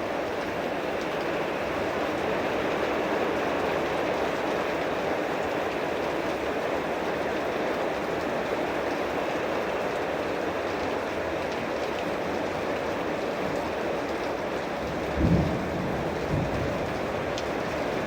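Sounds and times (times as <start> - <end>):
heavy rain downpour: 0.0 - 18.0.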